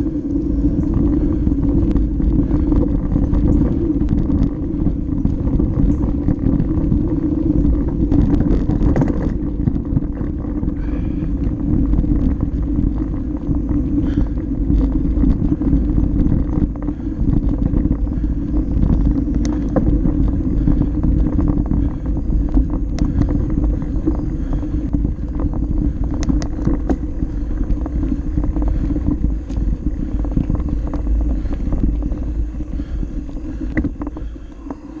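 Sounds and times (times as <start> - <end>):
bike clicks and rattles: 0.0 - 35.0
tyres on dirt trail: 0.0 - 35.0
wind rumble on microphone: 0.0 - 35.0.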